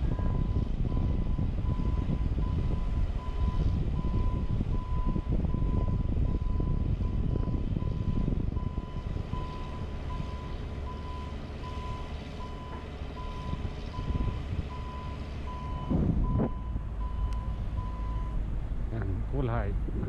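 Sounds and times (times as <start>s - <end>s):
continuous low rumble: 0.0s - 20.0s.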